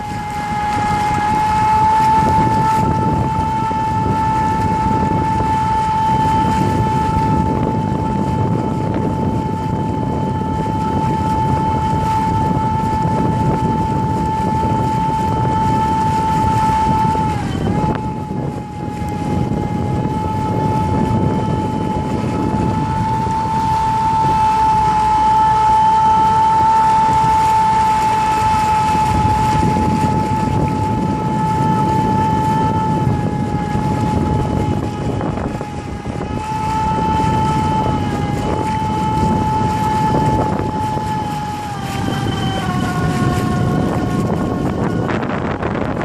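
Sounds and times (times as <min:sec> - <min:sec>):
churning wake: 0:00.0 - 0:46.0
electric outboard motor whine: 0:00.0 - 0:46.0
wind: 0:00.0 - 0:46.0.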